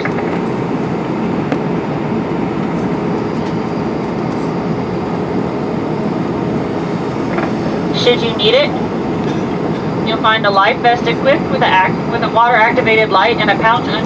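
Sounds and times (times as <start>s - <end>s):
aircraft cabin engine rumble: 0.0s - 14.0s
faint hum: 2.7s - 14.0s.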